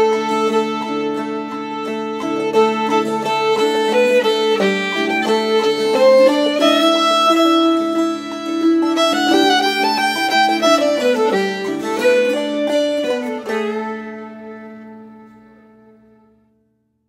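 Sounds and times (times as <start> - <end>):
fiddle playing a melody: 0.0 - 16.4
plucked string accompaniment: 0.0 - 16.7.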